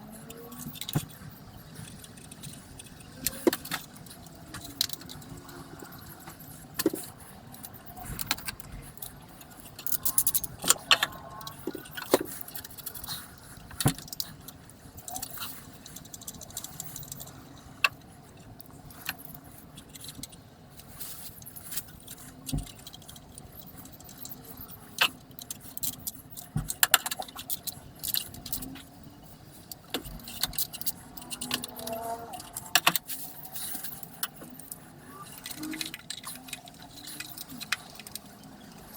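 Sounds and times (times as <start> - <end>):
metal tools and parts clinking: 0.0 - 38.9.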